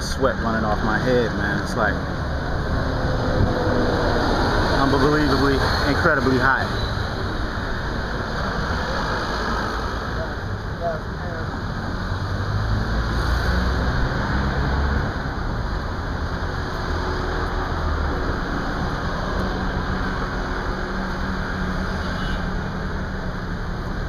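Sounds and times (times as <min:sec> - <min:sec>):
car and motorbike engines: 0:00.0 - 0:24.0.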